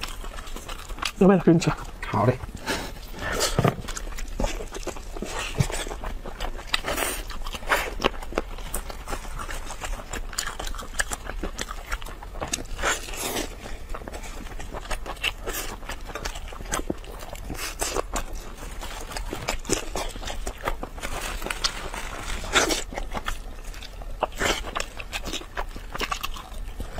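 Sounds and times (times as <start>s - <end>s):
person chewing wet food: 0.0s - 26.9s.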